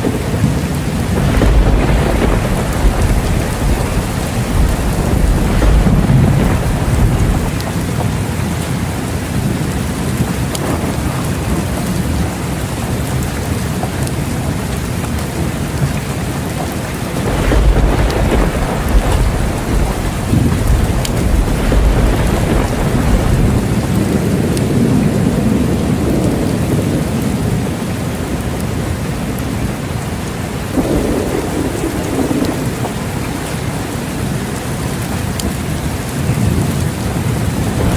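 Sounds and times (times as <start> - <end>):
thunder rumbling: 0.0 - 15.8, 16.6 - 37.9
steady rain pouring: 0.0 - 37.9.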